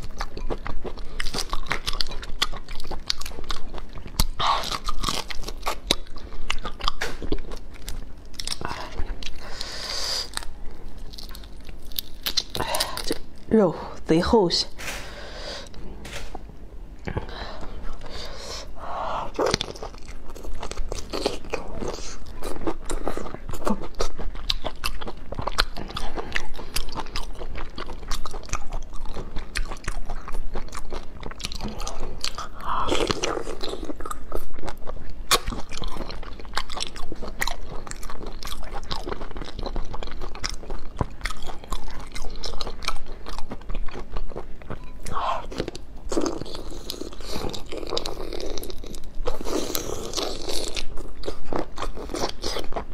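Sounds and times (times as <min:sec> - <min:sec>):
chewing prawns in shells: 0:00.0 - 0:13.5, 0:17.6 - 0:52.9.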